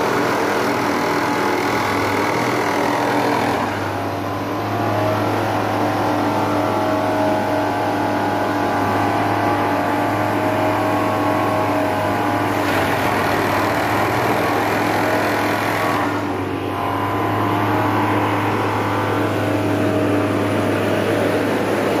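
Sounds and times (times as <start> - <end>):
harsh noisy machine sound: 0.0 - 22.0
track machine engine drone: 0.0 - 22.0.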